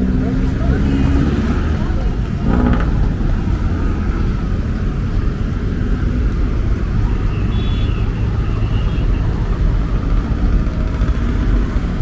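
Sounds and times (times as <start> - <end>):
city road traffic rumble: 0.0 - 12.0.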